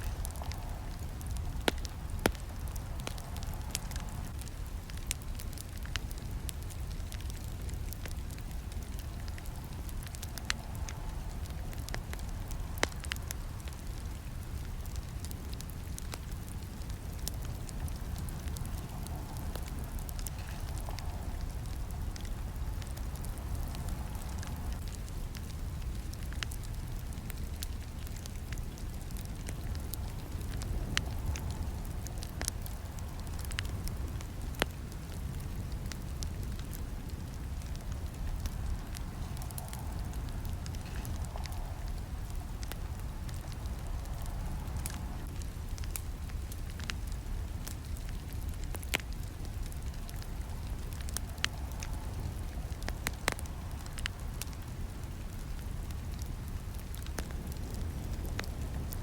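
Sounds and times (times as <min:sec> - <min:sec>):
burning wood crackling: 0:00.0 - 0:59.0
campfire flames rumbling: 0:00.0 - 0:59.0.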